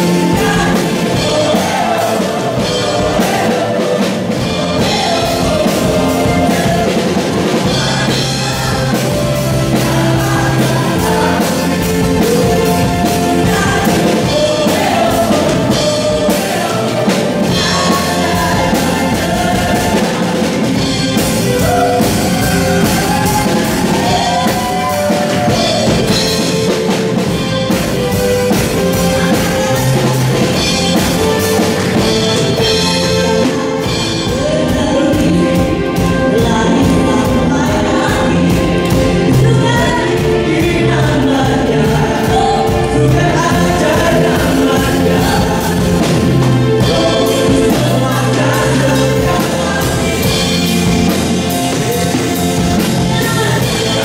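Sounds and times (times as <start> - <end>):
band with drums playing: 0.0 - 54.0
crowd singing along: 0.0 - 54.0.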